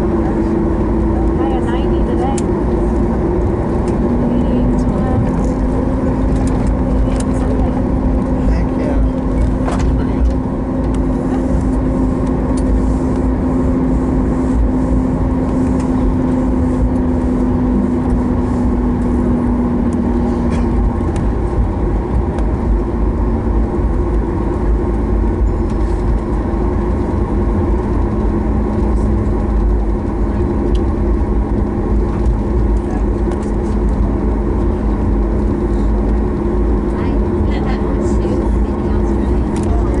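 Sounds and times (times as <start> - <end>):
jet engines idling rumble: 0.0 - 40.0
steady hum: 0.0 - 40.0.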